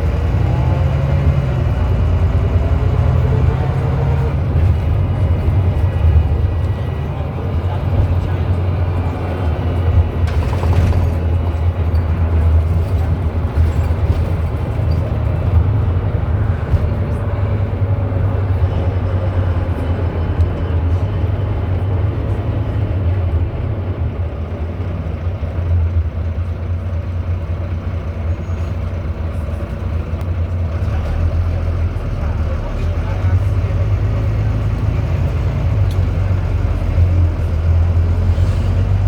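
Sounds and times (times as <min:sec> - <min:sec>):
bus engine drone: 0:00.0 - 0:39.0
road and cabin noise: 0:00.0 - 0:39.0.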